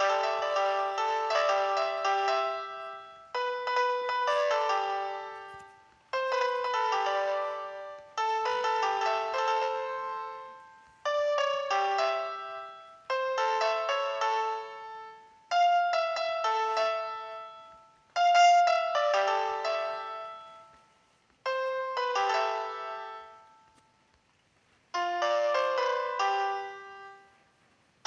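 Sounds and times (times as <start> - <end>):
slow piano melody: 0.0 - 28.0.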